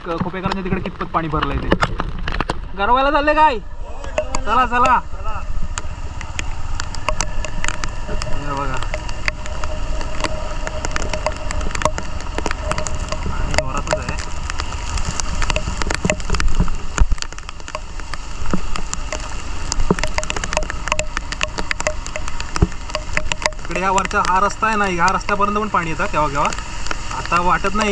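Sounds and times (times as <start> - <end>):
raindrops ticking on camera housing: 0.0 - 27.9
wind and motorbike rumble: 0.0 - 27.9.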